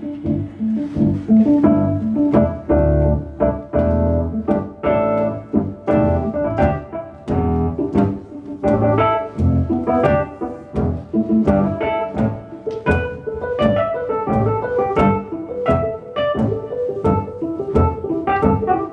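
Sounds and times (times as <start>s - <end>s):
jazz piano improvising: 0.0s - 18.9s.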